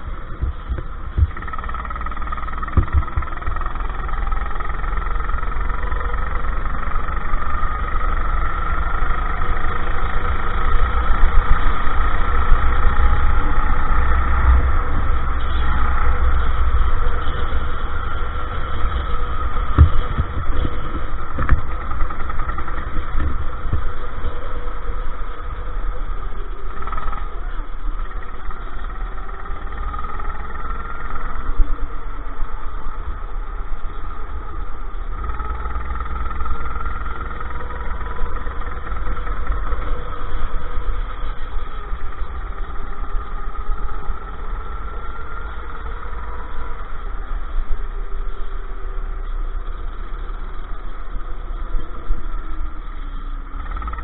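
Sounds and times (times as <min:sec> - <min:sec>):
go-kart engine revving: 0:00.0 - 0:54.0
other go-kart engines: 0:00.0 - 0:54.0
wind rumble on camera: 0:00.0 - 0:54.0.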